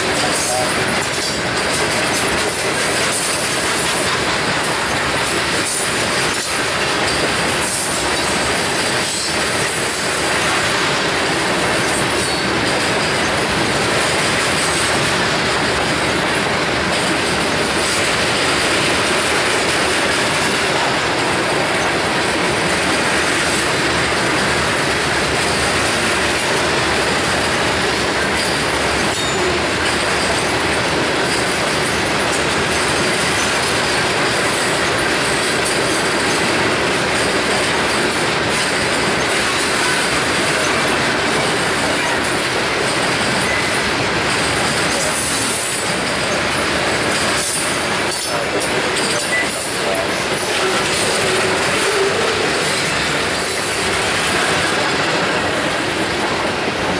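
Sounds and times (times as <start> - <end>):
train wheels running on rails: 0.0 - 56.9.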